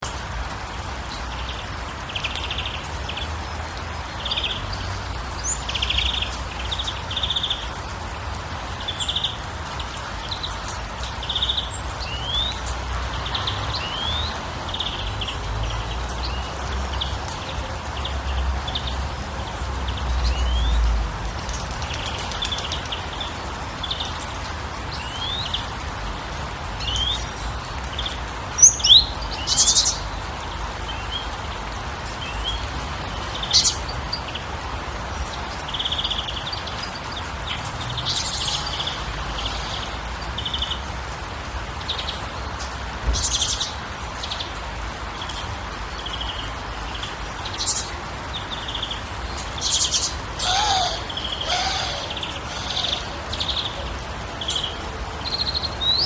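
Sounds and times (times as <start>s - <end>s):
small birds chirping: 8.8s - 40.9s, 41.7s - 56.0s.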